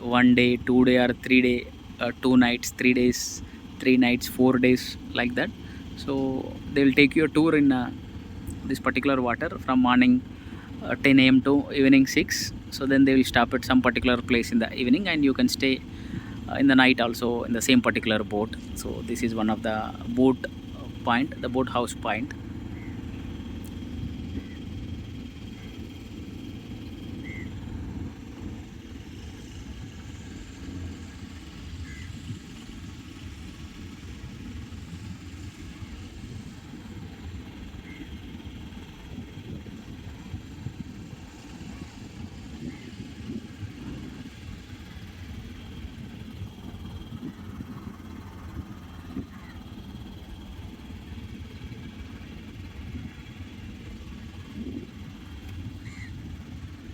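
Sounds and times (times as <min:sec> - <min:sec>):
motorboat engine running: 0:00.0 - 0:56.9.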